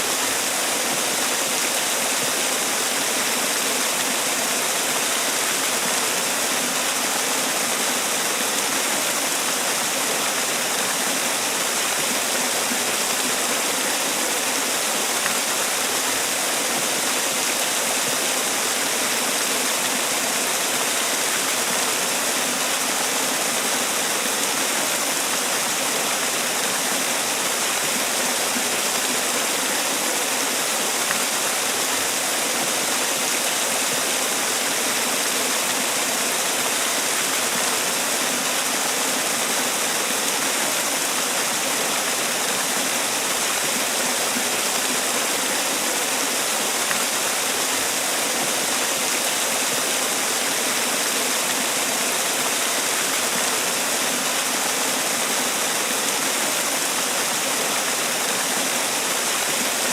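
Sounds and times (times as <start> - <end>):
waterfall pouring and splashing: 0.0 - 59.9.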